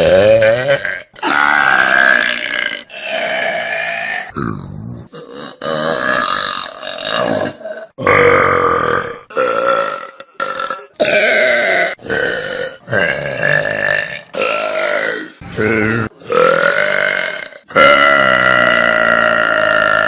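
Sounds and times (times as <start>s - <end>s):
person burping loudly: 0.0s - 20.0s.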